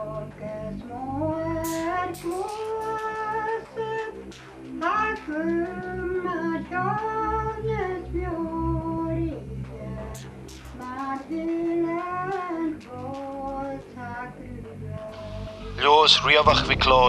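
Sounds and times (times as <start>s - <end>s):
low accompaniment: 0.0s - 17.0s.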